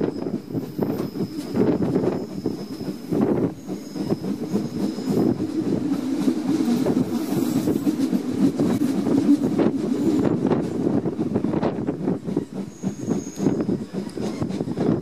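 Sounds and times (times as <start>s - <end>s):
high wheel squeal: 0.0s - 10.4s, 12.2s - 15.0s
train wheels rumbling and clicking: 0.0s - 15.0s.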